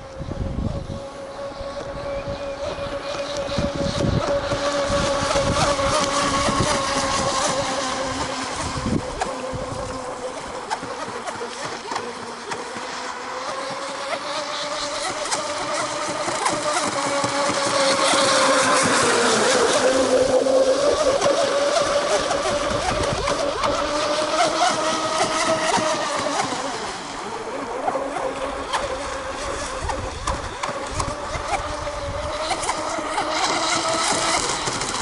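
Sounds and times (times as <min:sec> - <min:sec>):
model boat motor whining: 0:00.0 - 0:35.0.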